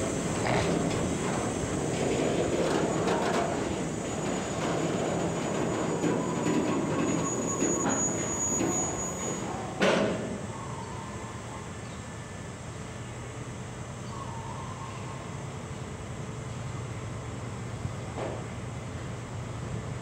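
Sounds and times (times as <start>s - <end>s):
train wheels rumbling on rail: 0.0s - 14.0s, 15.3s - 20.0s.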